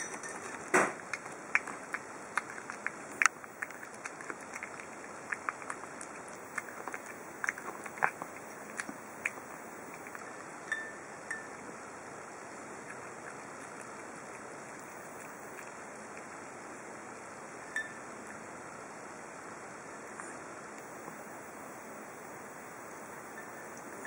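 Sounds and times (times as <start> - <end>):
steady background hiss: 0.0 - 24.0
cat chewing and licking: 0.1 - 18.7, 20.0 - 24.0.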